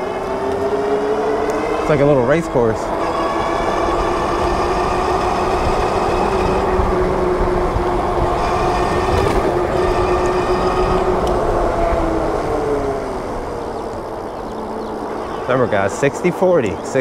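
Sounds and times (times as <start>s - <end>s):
electric bike motor whining: 0.0s - 15.5s
wind on microphone: 0.0s - 15.8s.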